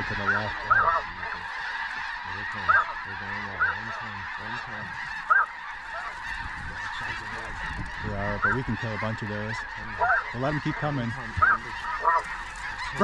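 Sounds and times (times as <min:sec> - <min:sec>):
flock of geese honking: 0:00.0 - 0:13.0.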